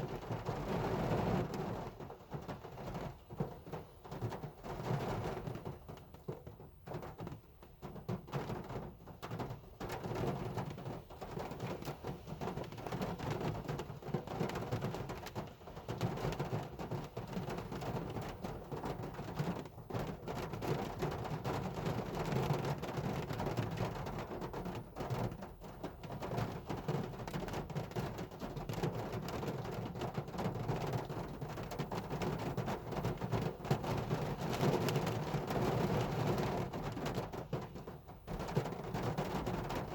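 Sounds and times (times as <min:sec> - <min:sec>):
hard rain on car roof: 0:00.0 - 0:39.9.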